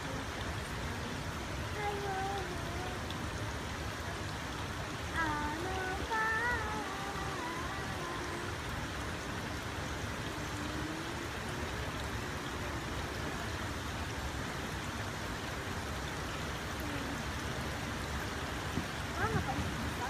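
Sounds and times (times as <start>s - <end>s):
water rushing through sluices: 0.0s - 20.0s.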